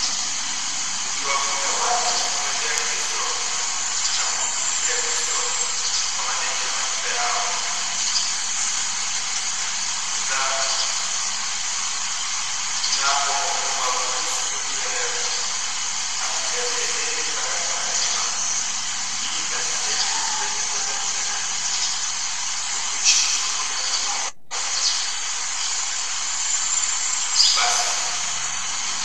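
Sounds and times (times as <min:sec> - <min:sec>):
faint man's voice: 0:00.0 - 0:08.9, 0:10.1 - 0:11.7, 0:12.7 - 0:22.0, 0:22.6 - 0:24.9, 0:26.8 - 0:29.0
loud steady hiss: 0:00.0 - 0:29.0.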